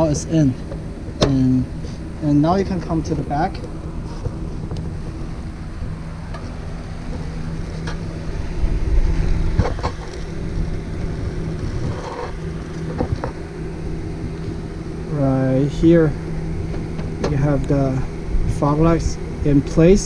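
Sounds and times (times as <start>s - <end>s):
low rumble: 0.0s - 20.0s
steady low hum: 0.0s - 20.0s.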